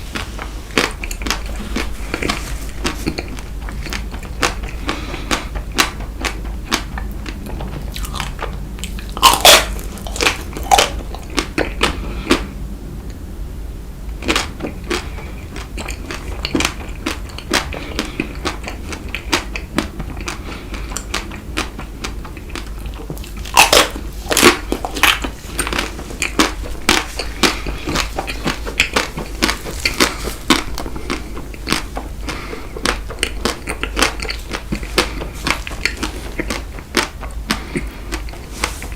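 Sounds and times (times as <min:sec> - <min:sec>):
biting and chewing crunches: 0:00.0 - 0:12.6, 0:14.2 - 0:38.9.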